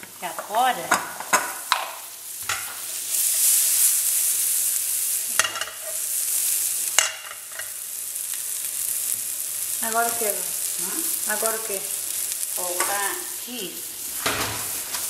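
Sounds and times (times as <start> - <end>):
sausage sizzling in a frying pan: 0.0 - 15.0.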